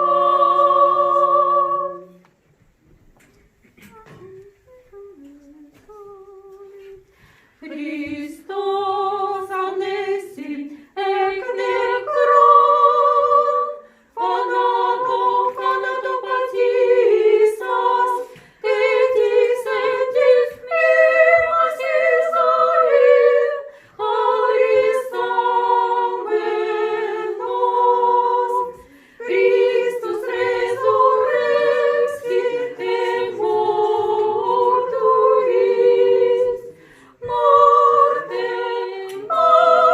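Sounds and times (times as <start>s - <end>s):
choir singing chant: 0.0s - 2.2s, 4.0s - 39.9s
single quiet voice singing: 3.6s - 39.9s.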